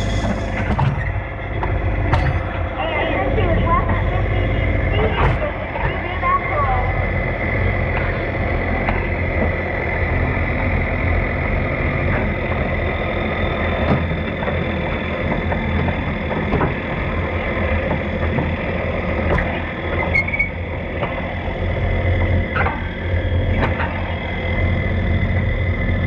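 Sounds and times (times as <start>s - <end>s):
diesel tractor engine idling: 0.0s - 26.0s.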